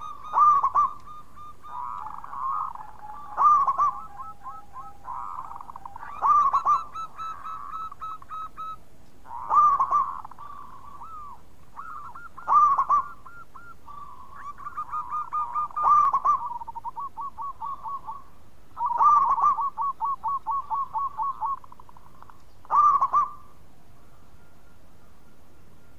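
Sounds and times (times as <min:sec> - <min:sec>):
dove cooing: 0:00.0 - 0:23.6.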